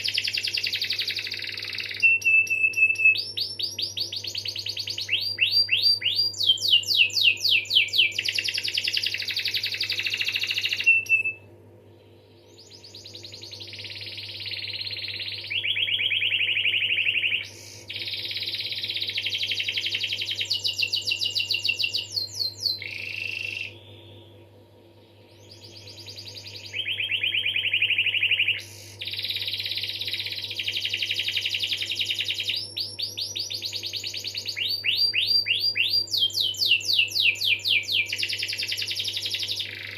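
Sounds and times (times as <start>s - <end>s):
canary singing trills: 0.0s - 11.4s, 12.5s - 24.4s, 25.0s - 39.9s
faint steady low hum: 0.0s - 39.9s.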